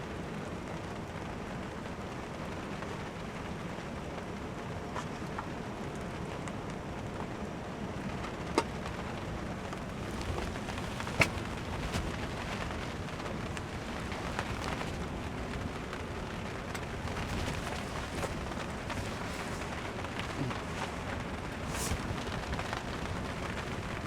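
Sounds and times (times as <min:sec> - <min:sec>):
steady rain: 0:00.0 - 0:24.0
raindrop ticks: 0:00.8 - 0:24.0.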